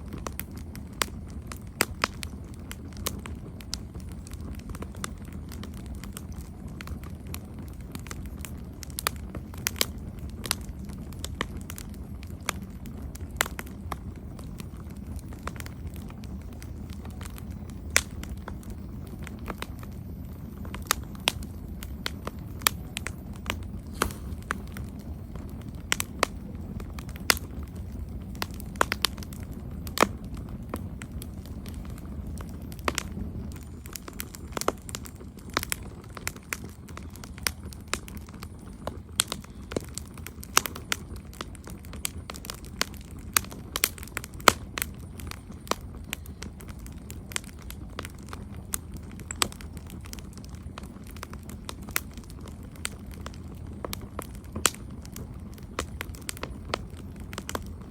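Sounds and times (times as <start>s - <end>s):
low rumble of flames: 0.0s - 57.9s
wood crackling and popping: 0.0s - 57.9s.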